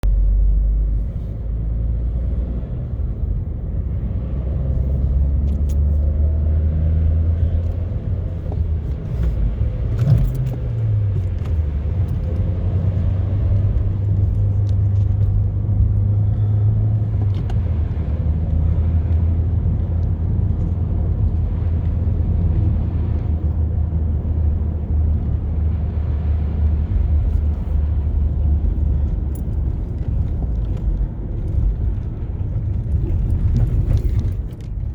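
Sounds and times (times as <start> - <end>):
car engine and road drone: 0.0 - 34.9.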